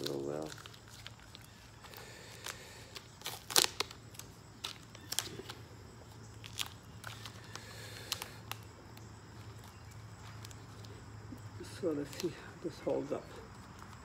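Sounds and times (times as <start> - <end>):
tape crackling and clicking: 0.0 - 12.4, 13.4 - 14.0.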